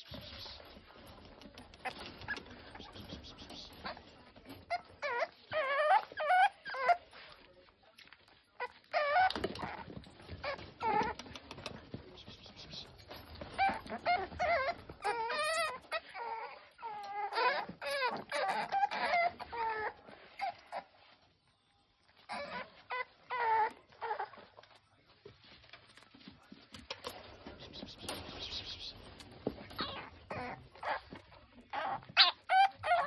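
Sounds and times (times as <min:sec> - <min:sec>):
puppies whining and whimpering: 0:00.1 - 0:07.5, 0:08.1 - 0:21.2, 0:22.0 - 0:24.8, 0:27.4 - 0:33.0.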